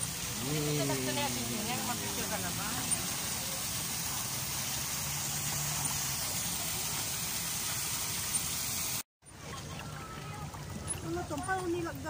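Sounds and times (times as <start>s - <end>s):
fountain water spraying: 0.0s - 12.0s.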